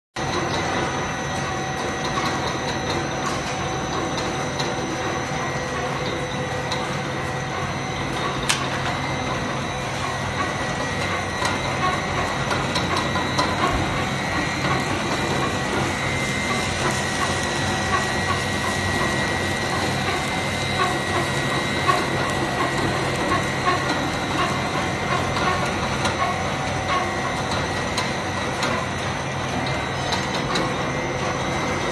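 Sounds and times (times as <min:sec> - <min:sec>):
high machine whines: 0:00.2 - 0:31.9
production line machinery running: 0:00.2 - 0:31.9.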